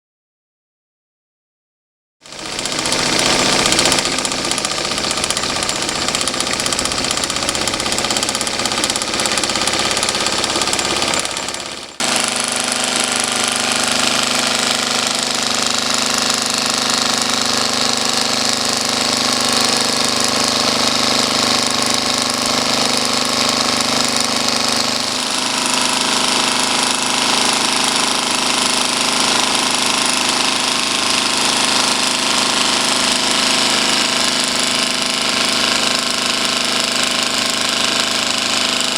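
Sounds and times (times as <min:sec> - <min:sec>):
steam engine running with hiss: 0:02.3 - 0:38.9.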